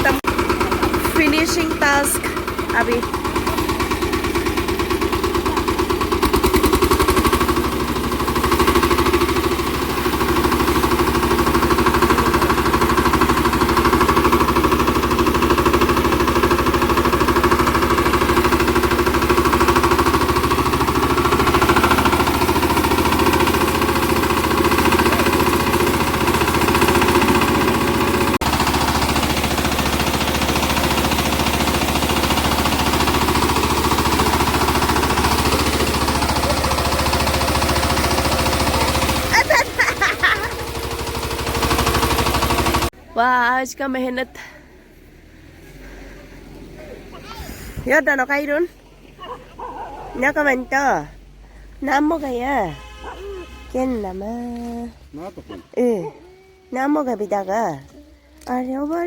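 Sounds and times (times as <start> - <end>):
small engine chugging: 0.0 - 59.0.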